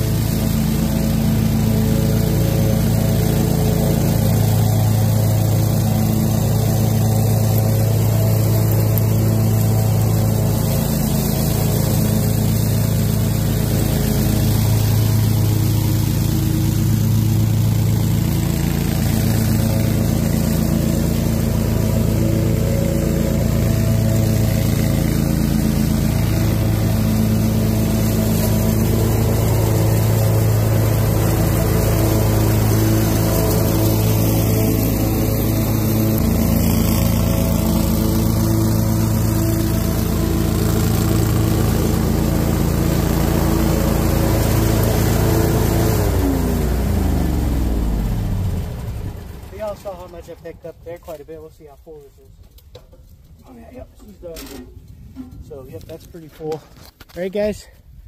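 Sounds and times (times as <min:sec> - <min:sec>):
mower engine running: 0:00.0 - 0:57.7.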